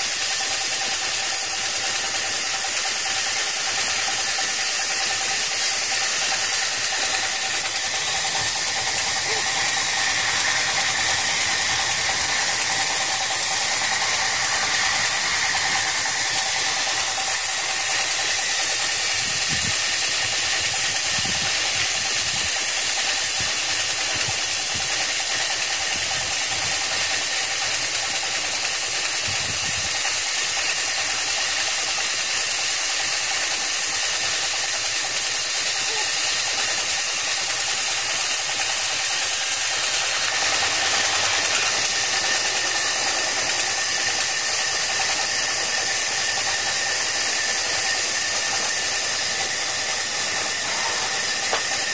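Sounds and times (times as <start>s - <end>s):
band saw hissing and whining: 0.0s - 51.9s.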